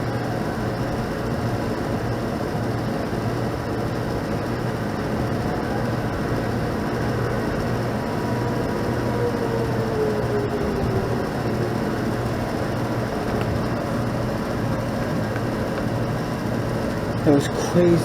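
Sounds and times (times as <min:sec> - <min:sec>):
steady noisy rumble: 0:00.0 - 0:18.0
tornado warning sirens: 0:00.0 - 0:18.0.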